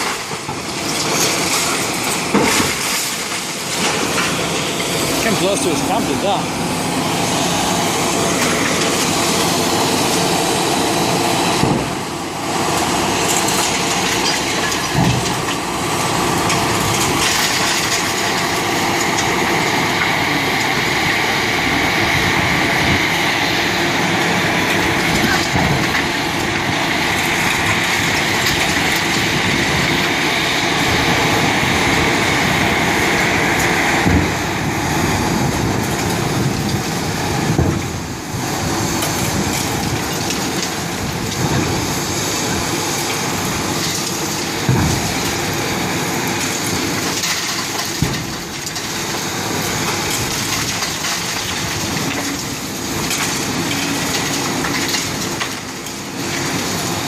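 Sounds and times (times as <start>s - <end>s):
concrete crushing and falling rubble: 0.0s - 6.5s, 12.8s - 21.0s, 24.6s - 57.0s.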